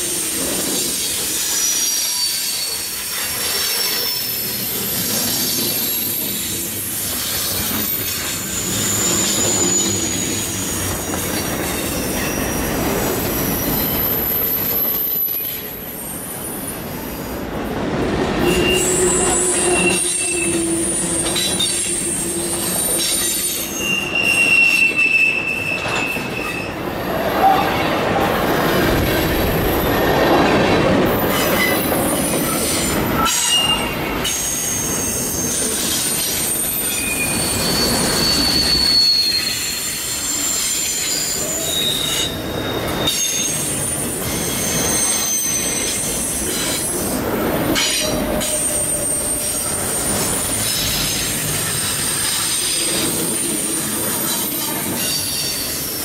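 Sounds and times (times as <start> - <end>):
rumble of train wheels: 0.0 - 56.0
steel wheels squealing on rails: 0.0 - 56.0.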